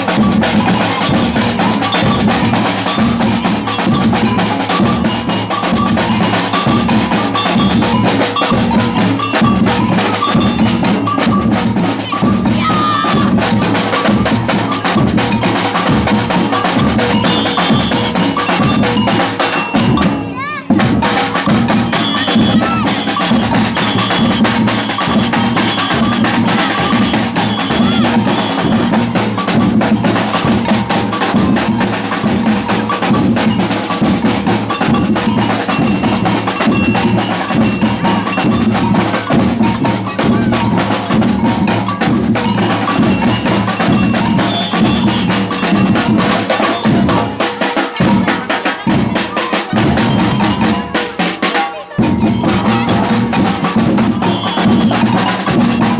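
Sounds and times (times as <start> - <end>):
samba drums playing: 0.0 - 55.9.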